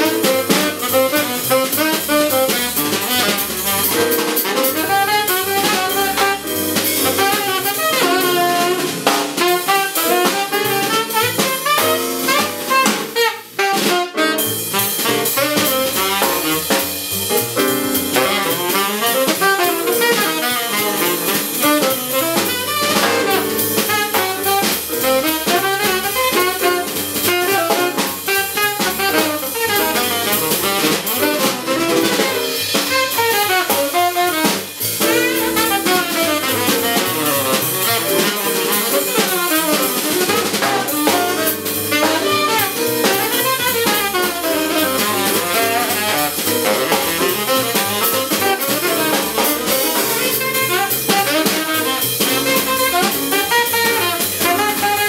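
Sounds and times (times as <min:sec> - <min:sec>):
digital piano: 0:00.0 - 0:55.0
drum kit: 0:00.0 - 0:55.0
tenor saxophone: 0:00.0 - 0:55.0
upright double bass: 0:00.0 - 0:55.0.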